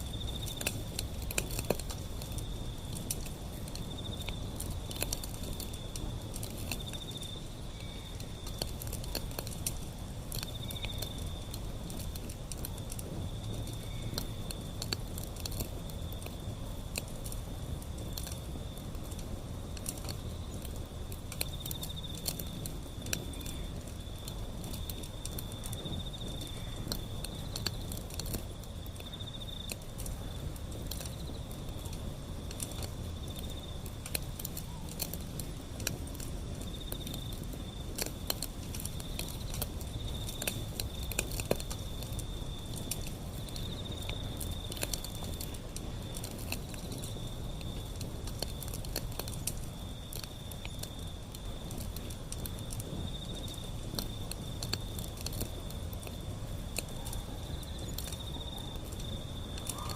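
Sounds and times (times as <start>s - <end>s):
high insect trill: 0.0s - 59.9s
wood fire crackling: 0.0s - 59.9s.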